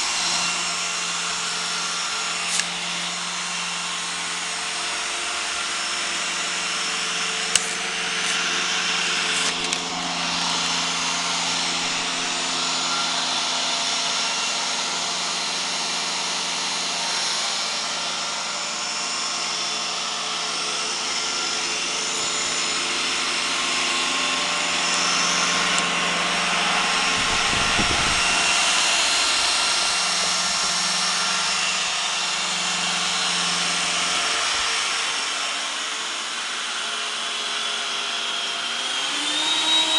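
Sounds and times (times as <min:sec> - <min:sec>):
robot vacuum motor and brush whir: 0:00.0 - 0:39.9.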